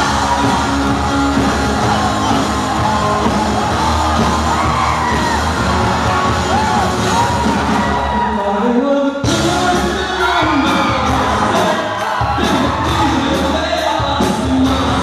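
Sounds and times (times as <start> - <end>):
live rock band playing loud: 0.0 - 8.3, 9.2 - 15.0
crowd whooping and yelling: 0.0 - 15.0.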